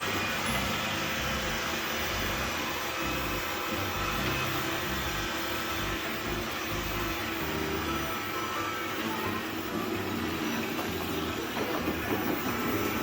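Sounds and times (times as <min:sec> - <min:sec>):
robotic vacuum cleaner running: 0:00.0 - 0:13.0.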